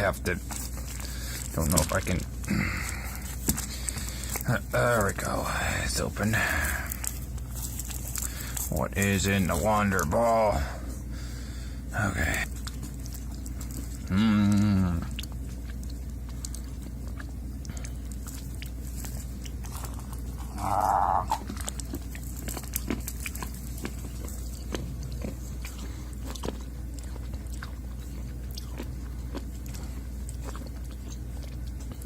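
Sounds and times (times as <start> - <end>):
person chewing crunchy candy: 0.0 - 32.0.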